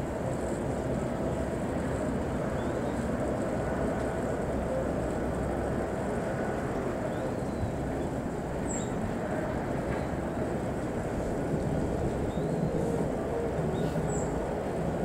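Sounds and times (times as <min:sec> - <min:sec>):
distant electric train rumble: 0:00.0 - 0:15.0.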